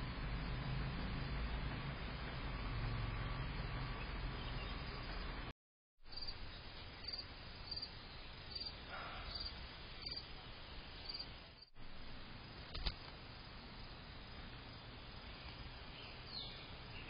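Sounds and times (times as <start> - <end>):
cricket chirping: 0.0 - 5.4, 6.0 - 17.0.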